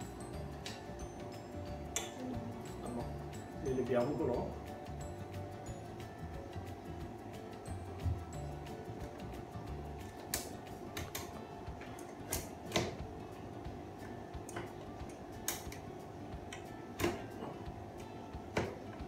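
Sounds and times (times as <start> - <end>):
faint steady background tone: 0.0 - 19.0.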